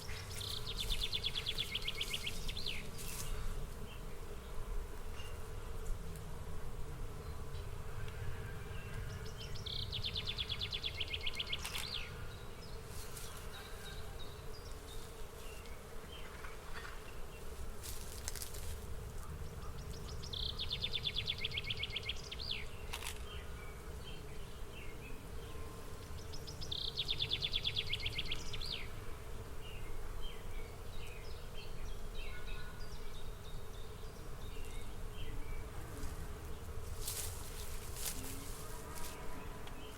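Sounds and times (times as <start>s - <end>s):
insect buzzing trill: 0.0s - 6.1s, 7.1s - 39.9s.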